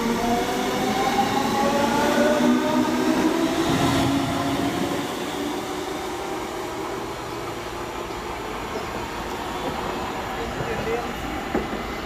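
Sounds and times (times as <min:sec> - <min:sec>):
train running noise with low hum: 0:00.0 - 0:12.0.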